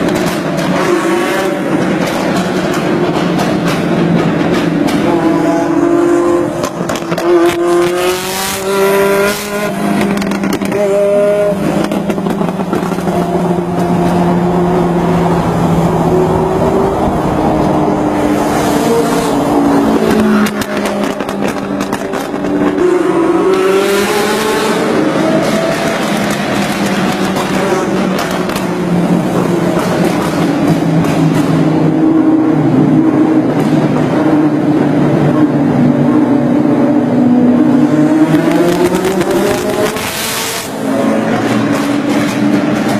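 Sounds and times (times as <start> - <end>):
car engine revving in a tunnel: 0.0 - 42.9.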